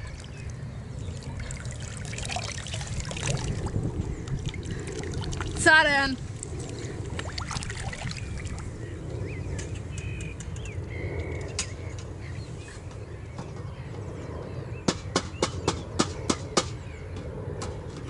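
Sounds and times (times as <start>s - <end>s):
low outdoor rumble: 0.0s - 15.2s
small birds chirping: 0.0s - 17.2s.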